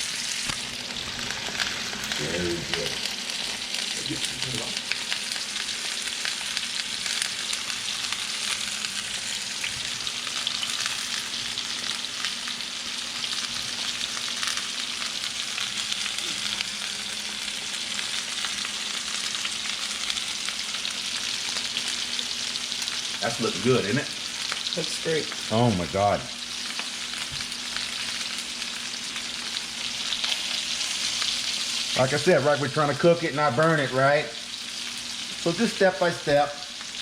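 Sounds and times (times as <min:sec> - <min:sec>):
food sizzling in a pan: 0:00.0 - 0:37.0.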